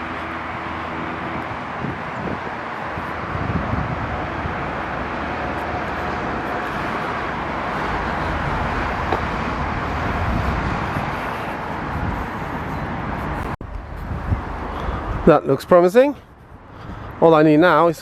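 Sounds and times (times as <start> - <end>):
outdoor rushing noise with rumble: 0.0 - 18.0.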